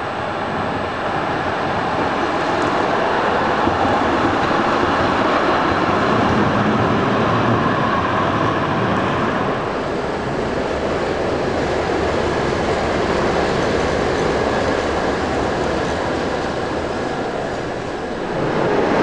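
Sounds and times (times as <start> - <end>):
tram wheels rolling on rails: 0.0 - 19.0.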